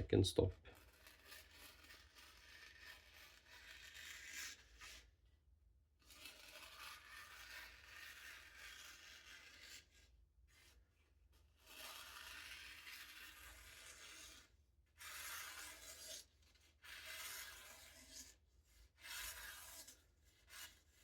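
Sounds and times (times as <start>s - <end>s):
knife slicing paper: 0.8s - 5.1s, 6.0s - 10.7s, 11.6s - 21.0s.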